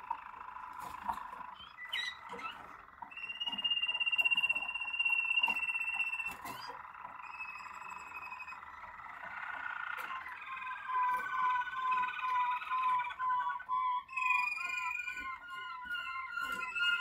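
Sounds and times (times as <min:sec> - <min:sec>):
canaries singing trills: 0:00.0 - 0:17.0.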